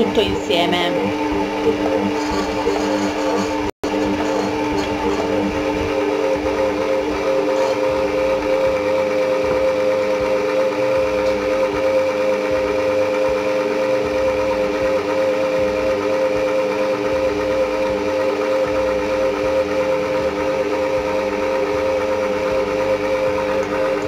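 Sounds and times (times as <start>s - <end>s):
stand mixer motor whining: 0.0s - 24.0s.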